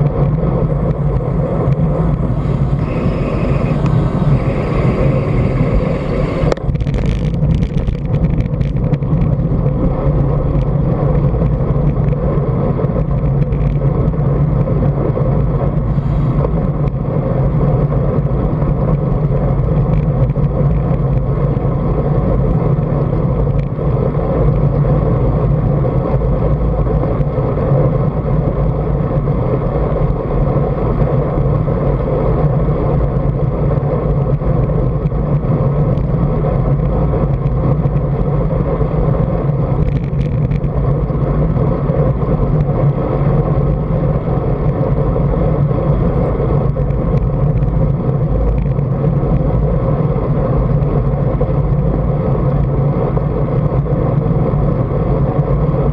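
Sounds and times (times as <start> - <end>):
road and tyre noise: 0.0 - 55.9
wind rumble on microphone: 0.0 - 55.9.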